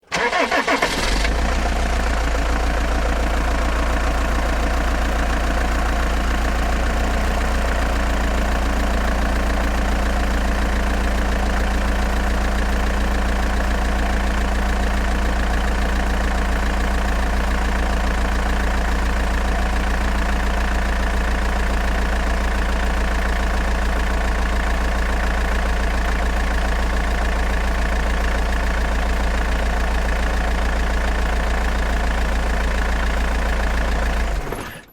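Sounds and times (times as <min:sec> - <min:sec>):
diesel van engine idling: 0:00.1 - 0:34.9.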